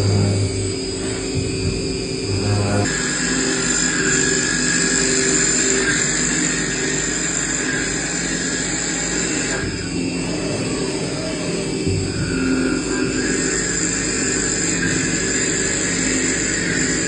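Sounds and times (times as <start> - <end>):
machine high whine: 0.0 - 17.0
machine low drone: 0.0 - 17.0.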